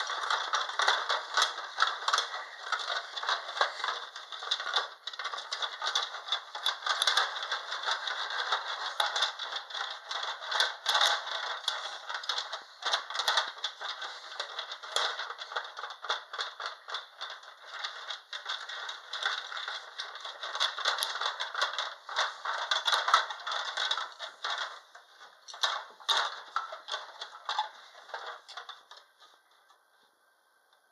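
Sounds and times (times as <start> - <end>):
plastic toy pieces rattling: 0.0 - 29.2.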